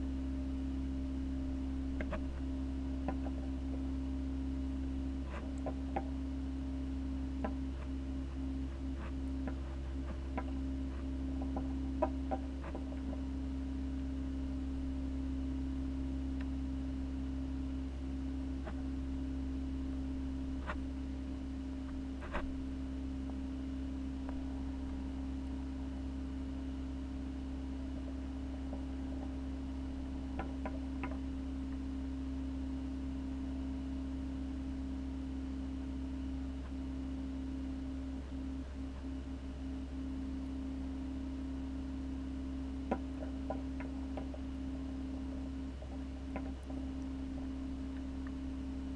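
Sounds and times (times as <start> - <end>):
aquarium pumps humming: 0.0 - 48.9.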